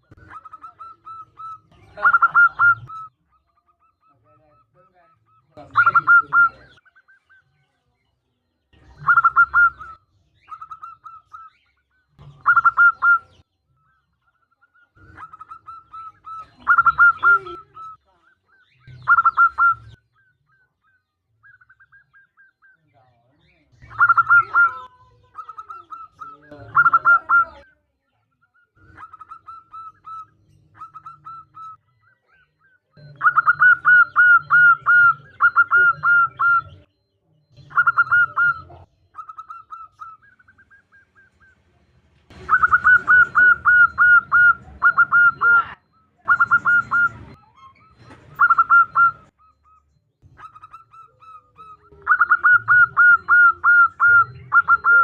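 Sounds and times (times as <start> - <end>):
dove cooing: 0.0 - 7.4, 8.8 - 22.8, 23.6 - 27.7, 28.6 - 55.0.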